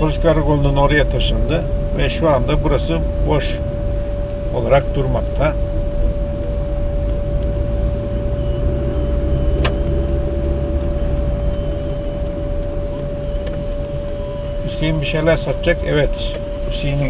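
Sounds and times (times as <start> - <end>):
car engine and road rumble: 0.0 - 17.0
constant tone: 0.0 - 17.0.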